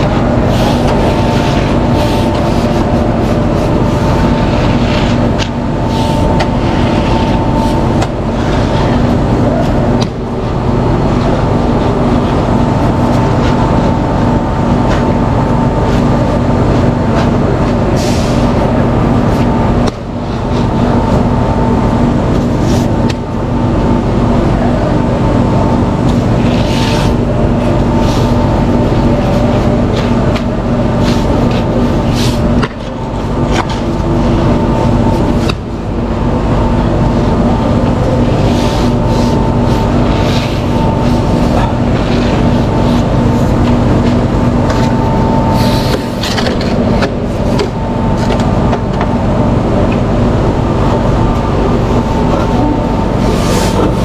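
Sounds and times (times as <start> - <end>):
vehicle engine drone: 0.0 - 54.0.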